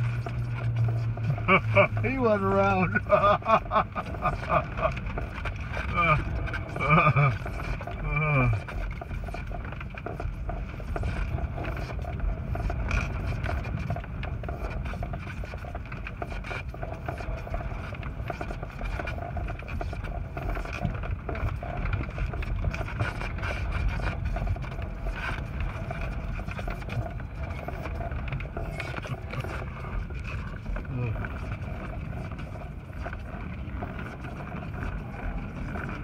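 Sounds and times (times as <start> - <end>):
wind buffeting airplane cabin: 0.0 - 36.0.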